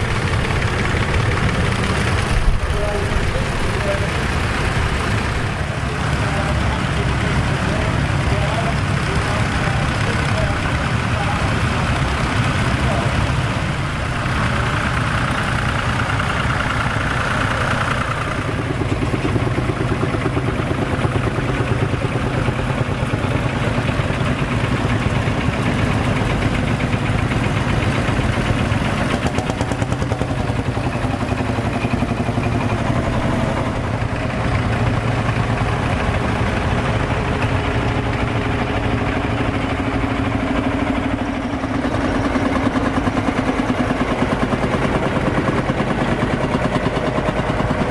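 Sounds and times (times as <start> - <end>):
tractor engines chugging: 0.0 - 47.9.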